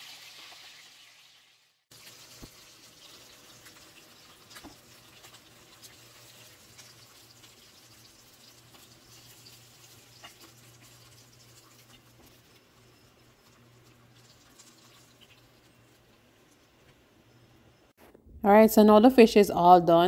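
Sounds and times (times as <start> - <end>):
frying oil sizzling and popping: 0.0 - 18.0.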